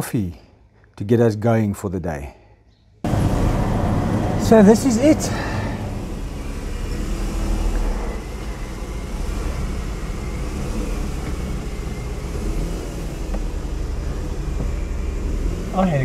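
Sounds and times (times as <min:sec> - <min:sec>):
car engine and tyres rumbling: 0:03.0 - 0:16.0.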